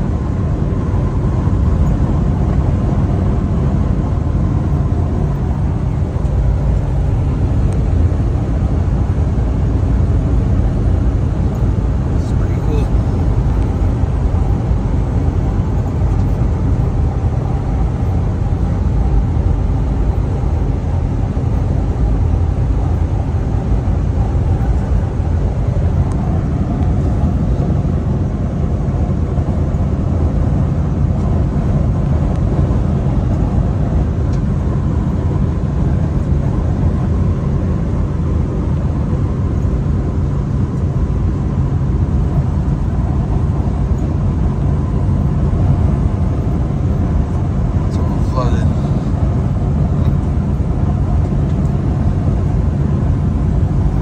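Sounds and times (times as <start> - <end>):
truck engine and tyres rumbling: 0.0 - 54.0.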